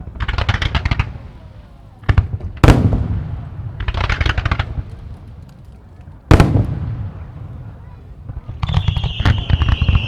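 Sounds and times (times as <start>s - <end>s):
fireworks booming with echo: 0.0s - 5.5s, 6.2s - 10.0s
fireworks crackling: 0.0s - 10.0s.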